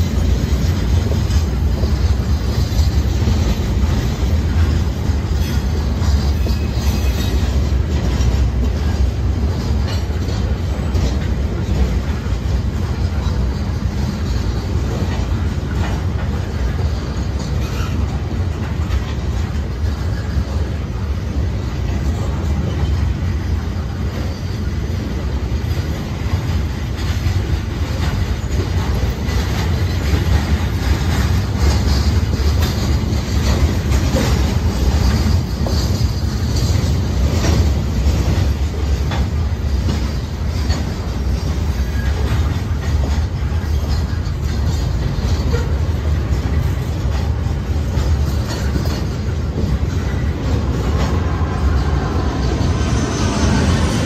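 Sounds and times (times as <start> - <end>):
wheels clacking over rail joints: 0.0 - 53.0
freight train rumbling past: 0.0 - 54.0.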